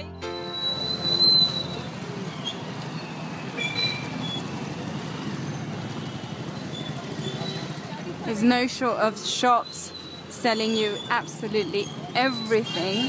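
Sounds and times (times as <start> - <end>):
rumble of motorbikes and cars: 0.0 - 13.0.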